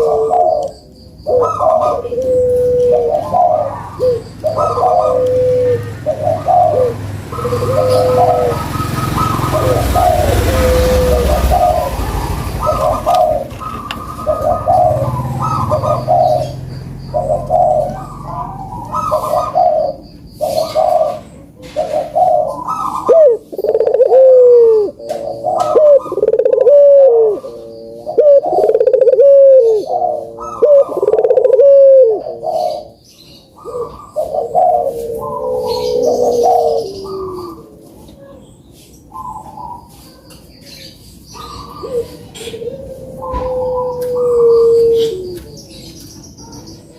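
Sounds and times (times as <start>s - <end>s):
doves cooing: 0.0s - 40.0s, 40.7s - 46.9s.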